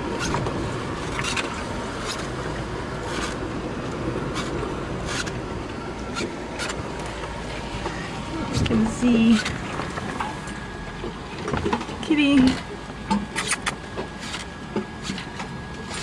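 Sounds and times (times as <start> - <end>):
rush of wind and sea: 0.0 - 16.0.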